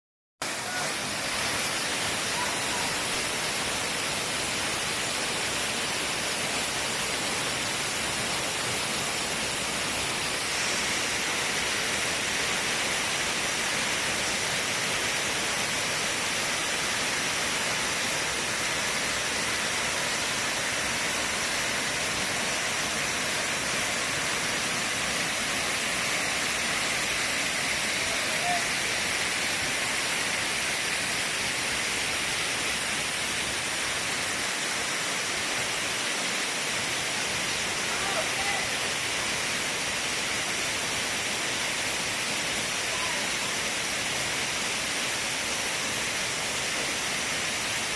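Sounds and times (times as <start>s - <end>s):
waterfall rushing over rocks: 0.4s - 47.9s.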